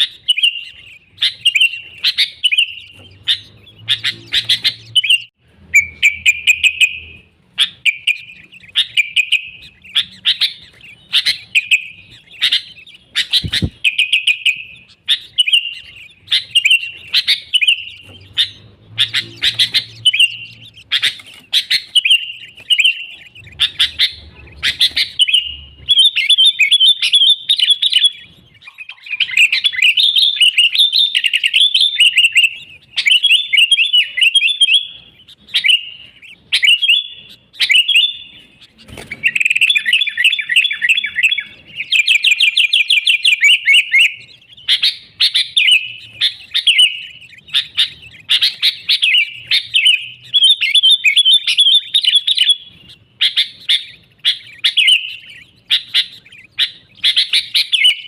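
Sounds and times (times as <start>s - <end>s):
bulbul singing warbled phrases: 0.0s - 58.0s.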